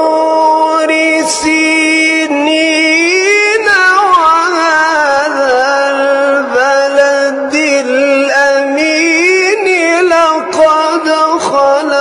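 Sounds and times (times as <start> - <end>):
person singing slow chant: 0.0 - 12.0.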